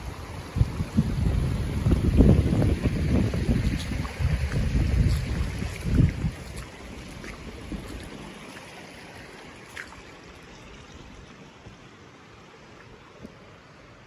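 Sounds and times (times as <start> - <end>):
stream water rushing over stones: 0.0 - 14.0.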